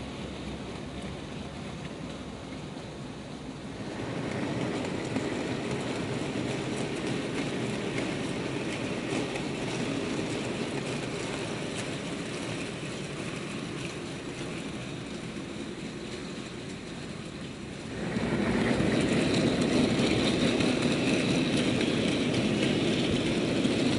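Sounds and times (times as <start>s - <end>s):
train wagons rolling past: 0.0s - 23.9s.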